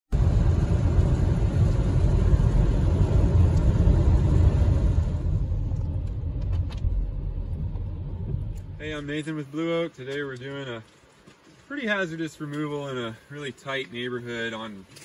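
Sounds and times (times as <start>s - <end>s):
road and tyre noise: 0.1s - 15.0s.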